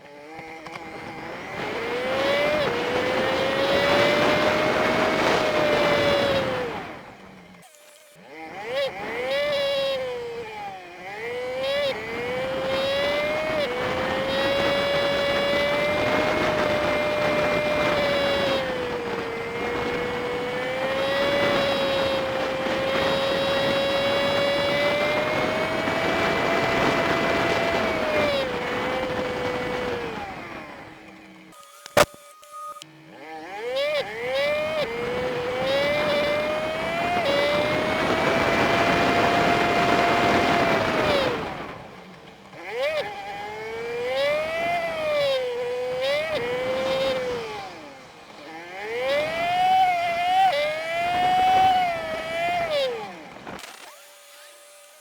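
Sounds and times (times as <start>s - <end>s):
high steady engine whine: 0.0s - 55.0s
wind and road noise: 0.0s - 55.0s.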